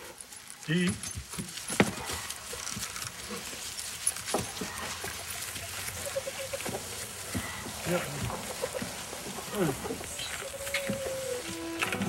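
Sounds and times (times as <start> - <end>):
harness clinking: 0.0 - 12.0
horse hooves knocking: 0.8 - 12.0.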